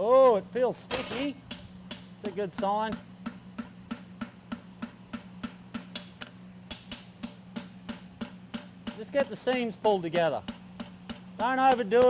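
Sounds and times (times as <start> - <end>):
steady low hum: 0.0 - 12.0
hammer tapping hot steel: 0.9 - 12.0.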